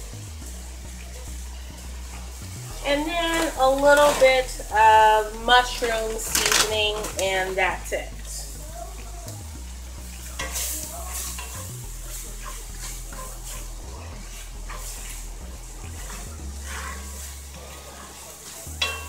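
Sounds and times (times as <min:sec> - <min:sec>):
food sizzling: 0:00.0 - 0:19.0
spatula scraping skillet: 0:00.4 - 0:19.0.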